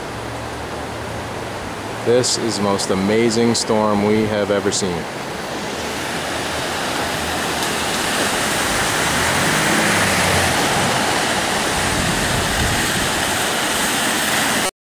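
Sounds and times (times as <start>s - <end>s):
floodwater rushing: 0.0s - 14.7s.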